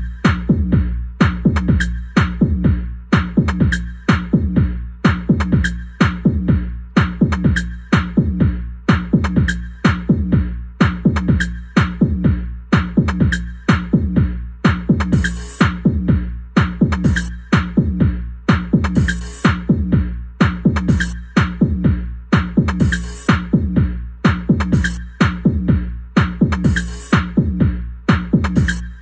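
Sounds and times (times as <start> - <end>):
electronic dance music: 0.0 - 29.0.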